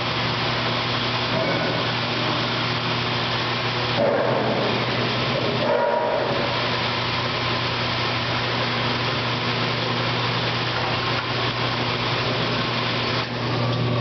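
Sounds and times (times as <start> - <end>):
washing machine electric hum: 0.0 - 14.0.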